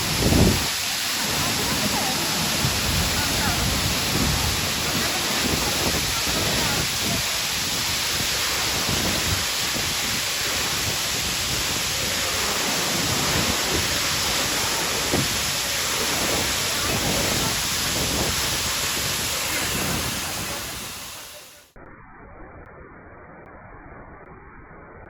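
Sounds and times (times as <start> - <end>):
falling water rushing: 0.0 - 21.7.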